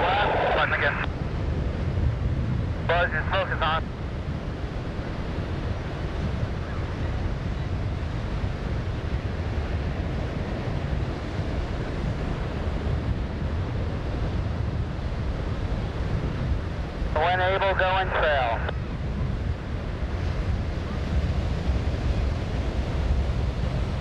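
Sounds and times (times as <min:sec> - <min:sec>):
surf washing: 0:00.0 - 0:24.0
wind noise on microphone: 0:00.0 - 0:24.0.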